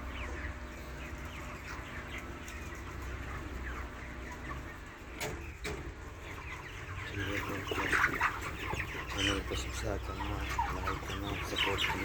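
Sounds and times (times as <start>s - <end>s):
chickens peeping and clucking: 0.0s - 12.0s.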